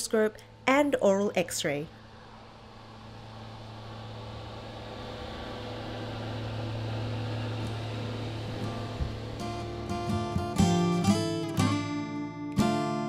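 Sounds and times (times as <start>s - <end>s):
scanner machine hum: 0.0s - 12.2s.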